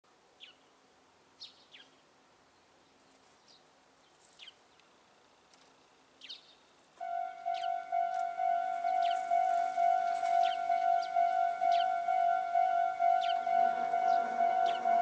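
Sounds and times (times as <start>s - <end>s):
faint bird chirps: 2.6s - 15.0s.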